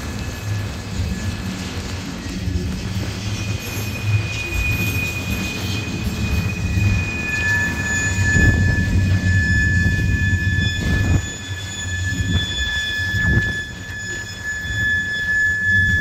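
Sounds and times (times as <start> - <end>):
freight train rumbling past: 0.0 - 14.0
steel wheels squealing: 0.0 - 16.0.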